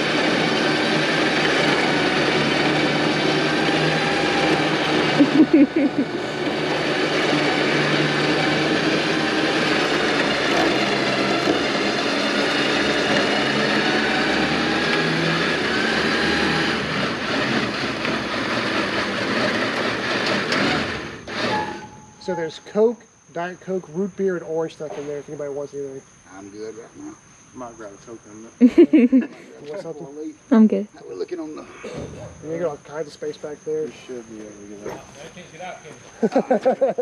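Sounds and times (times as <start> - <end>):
electric winch whining: 0.0 - 37.0.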